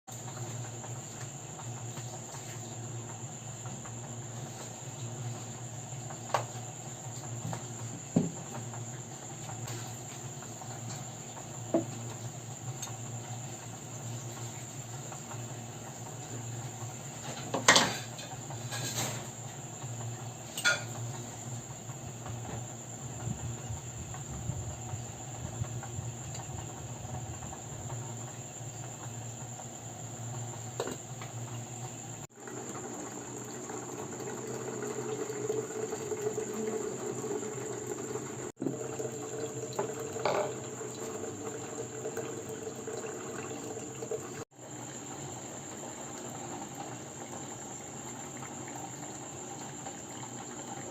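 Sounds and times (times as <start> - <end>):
crickets chirring: 0.1 - 50.9.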